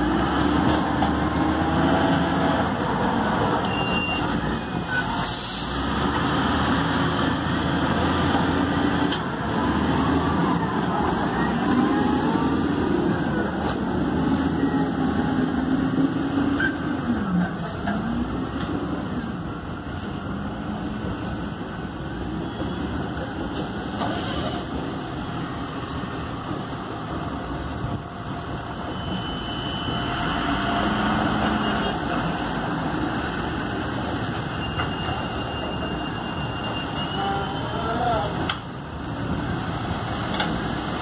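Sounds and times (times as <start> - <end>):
wheel loader diesel engine: 0.0 - 41.0.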